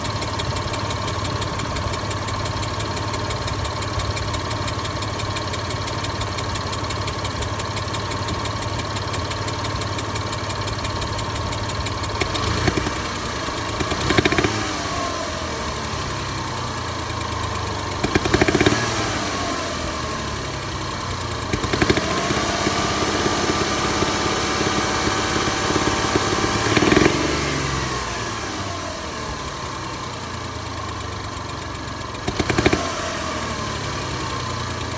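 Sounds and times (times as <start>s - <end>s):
car engine idling and revving: 0.0s - 34.9s
engine ticking and knocking: 0.0s - 34.9s.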